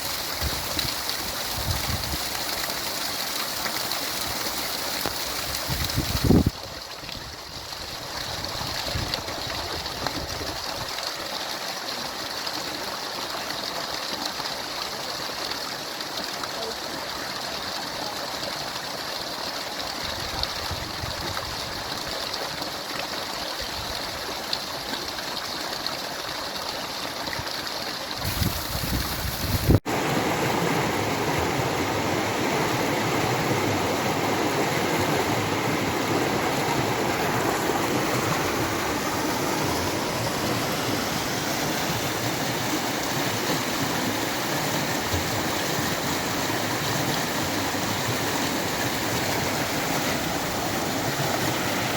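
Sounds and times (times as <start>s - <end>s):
stream of running water: 0.0s - 51.9s.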